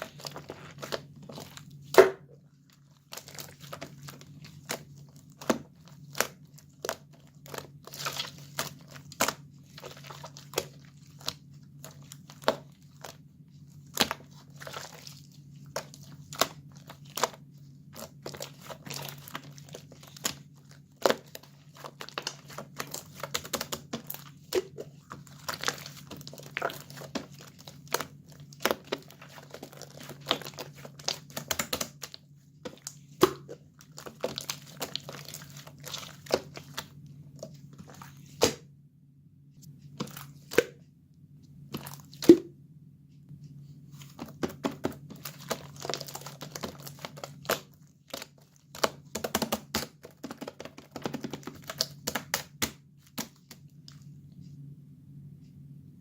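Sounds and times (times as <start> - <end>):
slime crackling and popping: 0.0 - 13.2, 13.8 - 37.0, 44.4 - 53.5
steady low hum: 0.0 - 46.4, 52.8 - 56.0.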